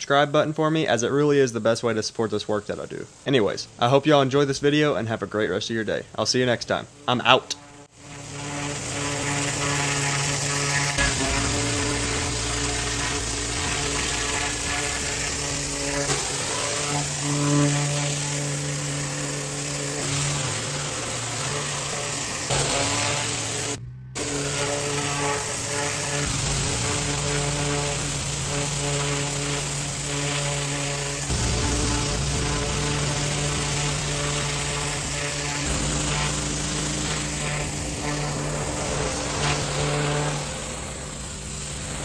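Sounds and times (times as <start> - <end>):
pressure washer engine humming: 7.7 - 42.0
water jet hissing on concrete: 7.8 - 42.0.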